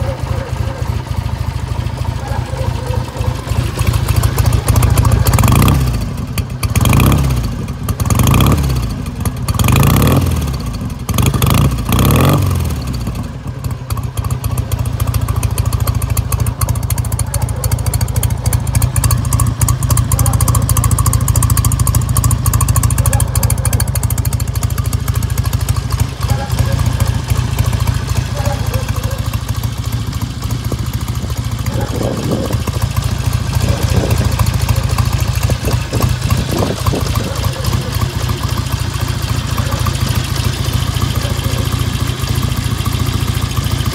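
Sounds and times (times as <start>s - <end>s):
motorcycle engine idling: 0.0s - 43.9s
motorcycle engine revving: 0.0s - 43.9s.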